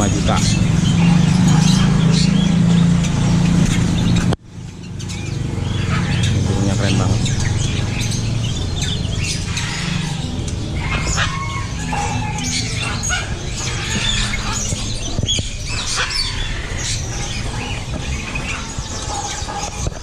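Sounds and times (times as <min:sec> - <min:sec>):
caged birds chirping: 0:00.0 - 0:20.0
low hum: 0:00.0 - 0:20.0.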